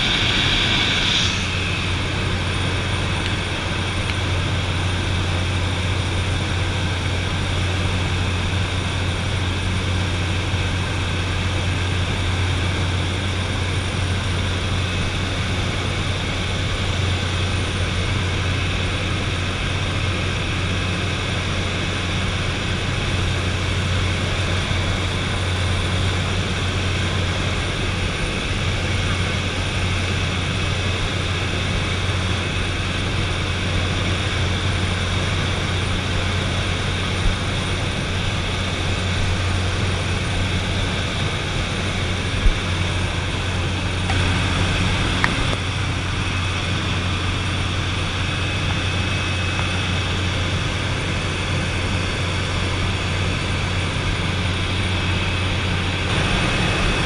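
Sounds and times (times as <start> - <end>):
propeller plane droning in cabin: 0.0 - 57.0.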